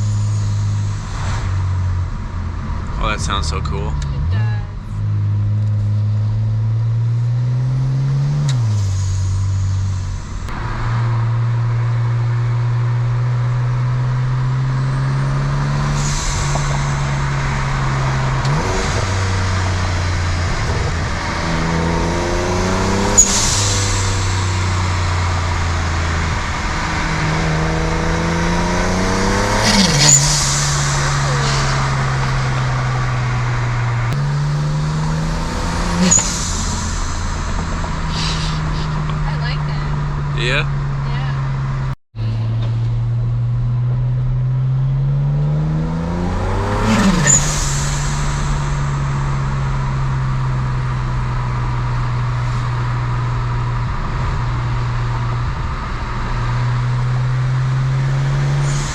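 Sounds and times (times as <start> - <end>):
car engine accelerating: 0.0 - 58.9
exhaust burst on upshift: 3.0 - 58.9.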